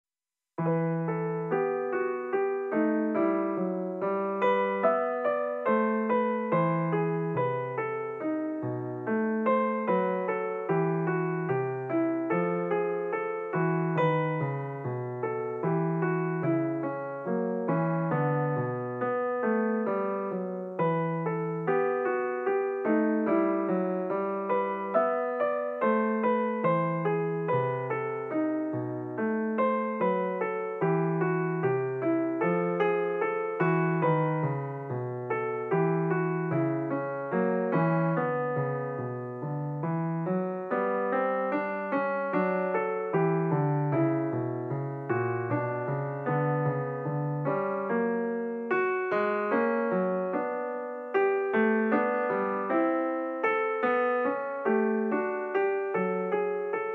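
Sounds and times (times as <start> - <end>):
piano music: 0.6 - 56.9.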